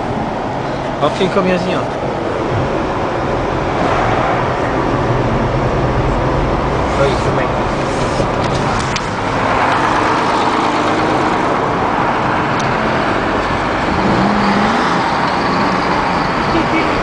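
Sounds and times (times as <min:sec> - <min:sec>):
car engine: 0:00.0 - 0:17.0
tyres on snowy road: 0:00.0 - 0:17.0.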